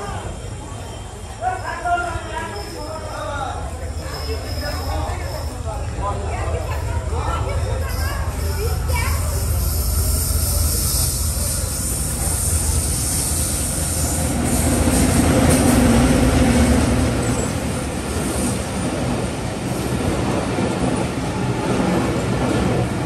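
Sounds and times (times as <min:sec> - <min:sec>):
passenger train passing: 0:00.0 - 0:23.0.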